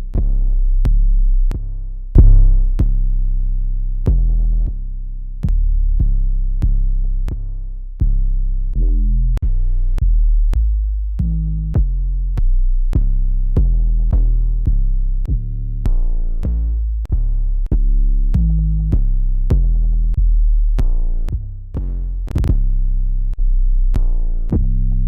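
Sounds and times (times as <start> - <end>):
distorted bass notes: 0.0 - 25.0.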